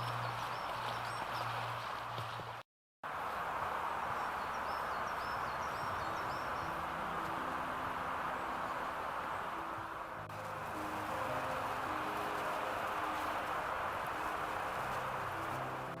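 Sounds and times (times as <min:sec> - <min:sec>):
rushing background noise: 0:01.6 - 0:16.0.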